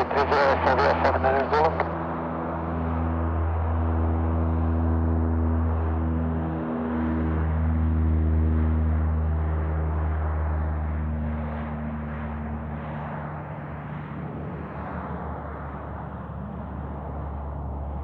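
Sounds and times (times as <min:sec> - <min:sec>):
airliner taking off: 0:00.0 - 0:18.0.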